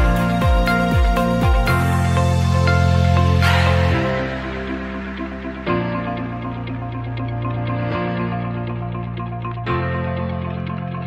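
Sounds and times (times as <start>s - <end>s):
electronic chords with ticking beat: 0.0s - 11.0s.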